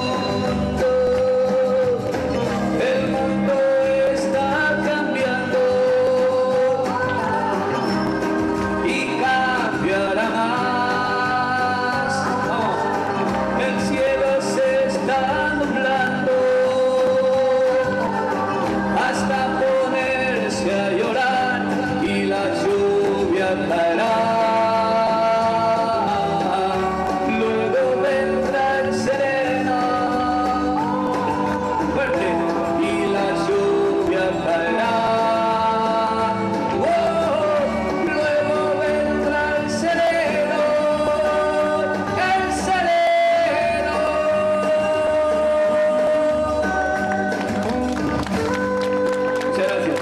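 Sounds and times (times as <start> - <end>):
man singing slow ballad: 0.0 - 7.8, 8.8 - 47.4
instrumental backing music: 0.0 - 50.0.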